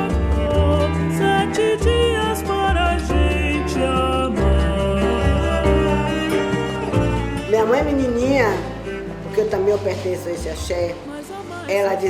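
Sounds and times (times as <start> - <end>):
instrumental music with held chords: 0.0 - 9.8.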